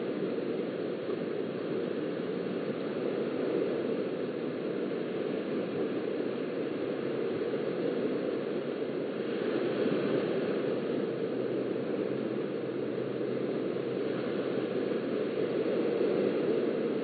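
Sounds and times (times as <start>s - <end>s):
surf washing on sandy beach: 0.0s - 17.0s.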